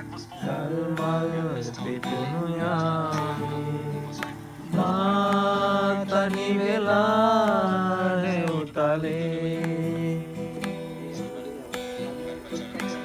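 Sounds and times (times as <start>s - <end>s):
people singing: 0.0s - 13.0s
strummed acoustic guitar: 0.0s - 13.0s.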